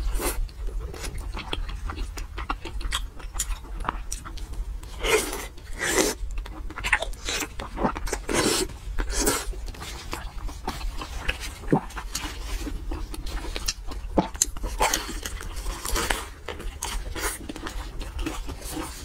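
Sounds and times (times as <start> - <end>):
chewing fried roll: 0.0 - 19.0.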